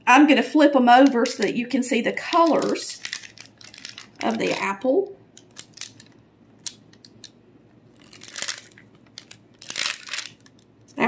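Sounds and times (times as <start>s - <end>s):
parchment paper crinkling: 0.9s - 7.3s, 7.9s - 10.7s.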